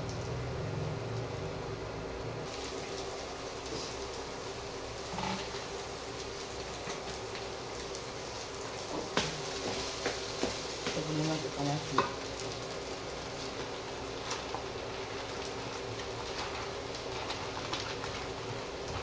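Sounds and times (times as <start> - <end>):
food sizzling in a wok: 0.0 - 19.0.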